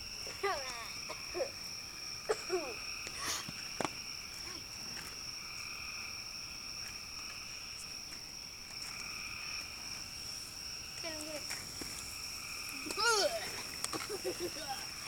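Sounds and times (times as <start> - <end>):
frogs and insects chorus: 0.0 - 15.0.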